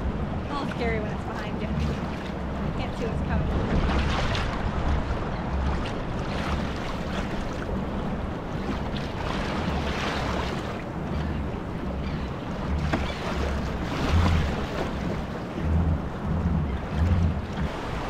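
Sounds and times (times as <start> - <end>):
ocean waves splashing around kayak: 0.0 - 18.0
wind rumbling on microphone: 0.0 - 18.0.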